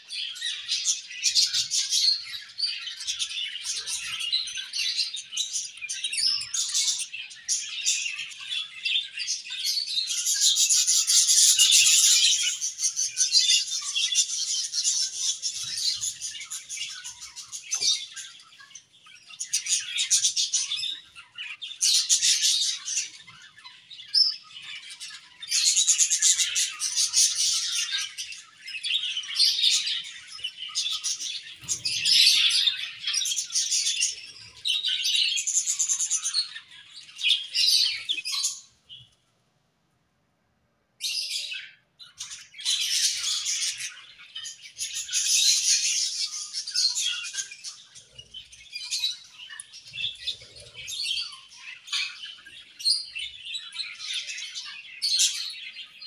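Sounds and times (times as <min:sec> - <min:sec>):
budgerigars chirping and warbling: 0:00.0 - 0:39.2, 0:41.0 - 0:56.0.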